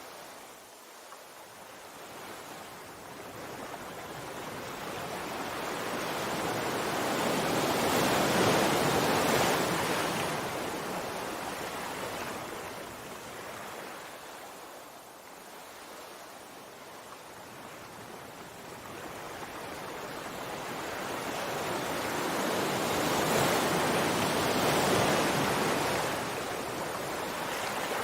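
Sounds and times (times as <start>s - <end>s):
sea wave surging and washing: 0.0s - 28.0s.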